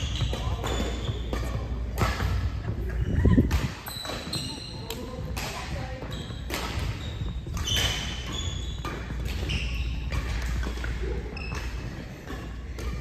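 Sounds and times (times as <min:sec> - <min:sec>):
sneakers squeaking: 0:00.0 - 0:13.0.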